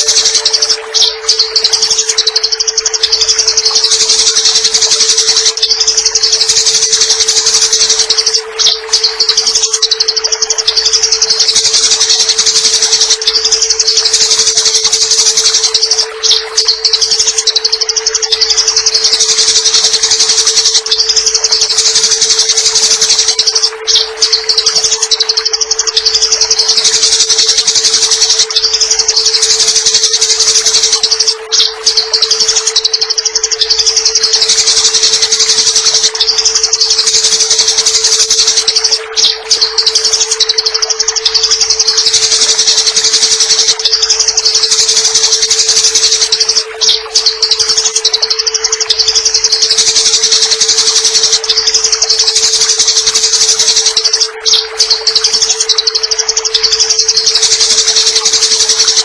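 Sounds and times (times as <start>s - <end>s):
sparrows chattering: 0.0s - 59.0s.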